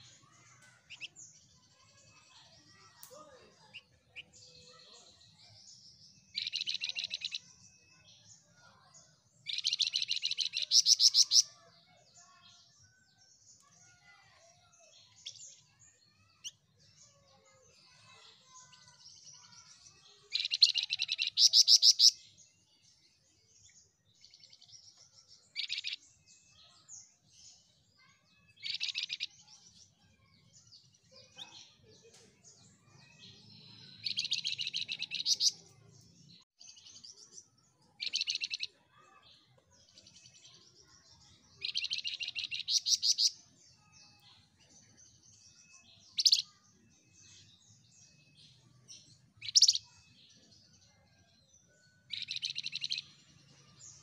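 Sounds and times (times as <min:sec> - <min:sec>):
soft bird twittering: 0:00.0 - 0:17.0, 0:17.6 - 0:50.8.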